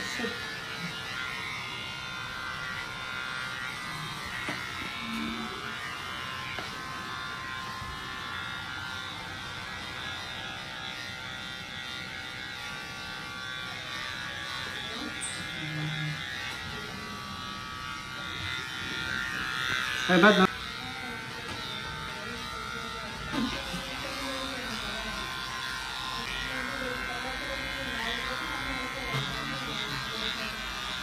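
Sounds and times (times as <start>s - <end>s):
electric clippers buzzing: 0.0s - 31.0s.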